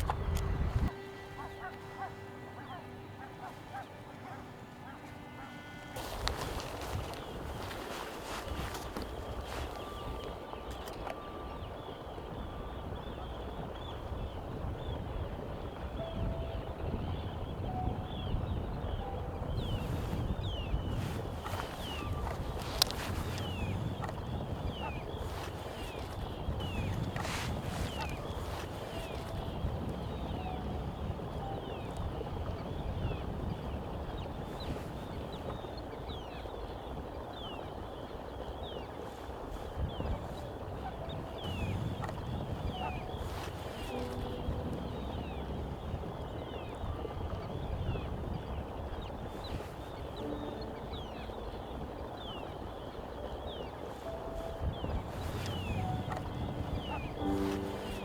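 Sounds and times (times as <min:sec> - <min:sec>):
wind rumble on microphone: 0:00.0 - 0:58.0
bird chirping: 0:00.8 - 0:58.0.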